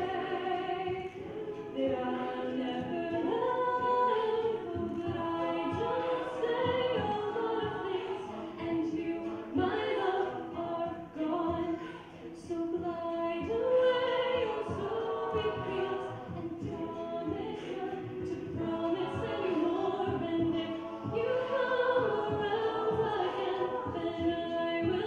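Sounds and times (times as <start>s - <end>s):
vocal group singing in harmony: 0.0s - 25.0s.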